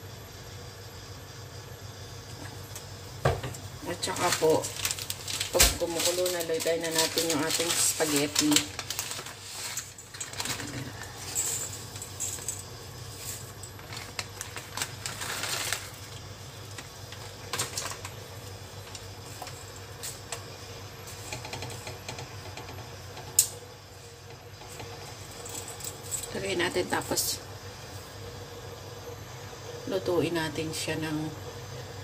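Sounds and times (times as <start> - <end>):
water boiling in a pot: 0.0 - 32.0.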